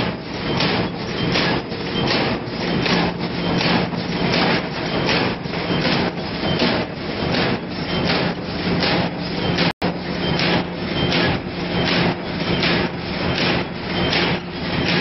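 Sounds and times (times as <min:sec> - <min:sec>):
machine clacking rhythmically: 0:00.0 - 0:15.0
machine humming: 0:00.0 - 0:15.0.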